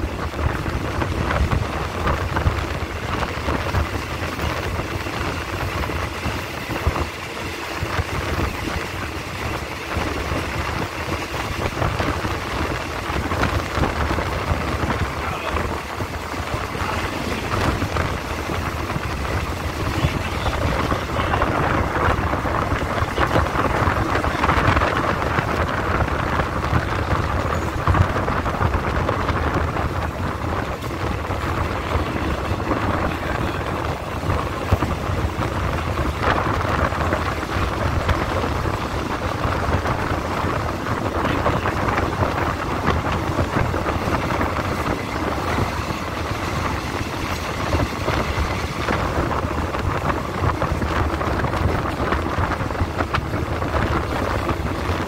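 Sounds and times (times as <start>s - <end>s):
air rushing past train: 0.0s - 55.0s
train wheels on rails: 0.0s - 55.0s
wind buffeting microphone: 0.0s - 55.0s.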